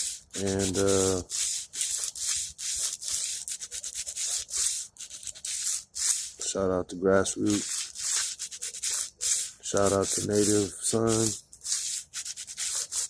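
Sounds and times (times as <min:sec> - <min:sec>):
sandpaper rubbing on metal: 0:00.0 - 0:06.5, 0:07.3 - 0:13.0.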